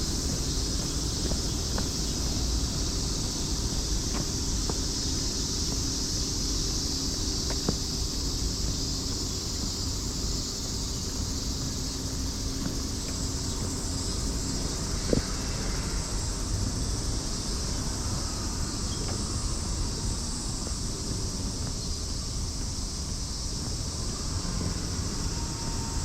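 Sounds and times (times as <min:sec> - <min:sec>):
cicadas singing: 0:00.0 - 0:26.0
wind rumble on microphone: 0:00.0 - 0:26.0.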